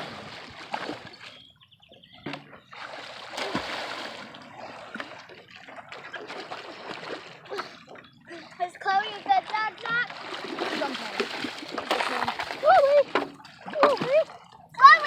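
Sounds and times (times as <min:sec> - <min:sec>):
water splashing from paddling: 0:00.0 - 0:01.4, 0:02.2 - 0:15.0.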